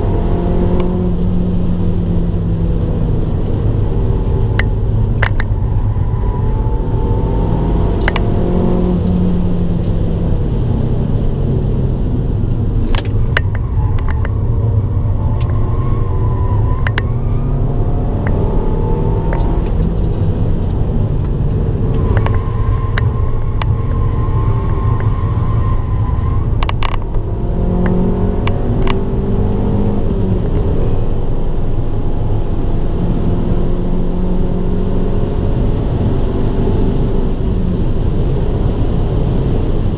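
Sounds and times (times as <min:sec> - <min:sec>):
car engine accelerating: 0:00.0 - 0:39.9
low rumble: 0:00.0 - 0:39.9.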